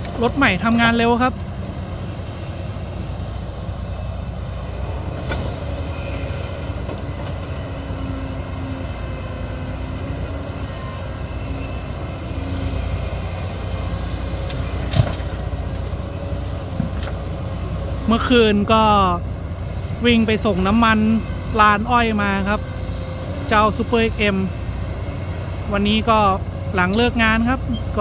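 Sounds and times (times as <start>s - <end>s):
excavator diesel engine rumbling: 0.0s - 28.0s.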